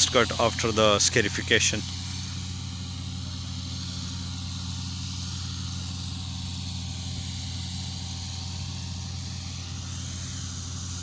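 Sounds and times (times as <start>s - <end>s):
mower engine humming: 0.0s - 11.0s.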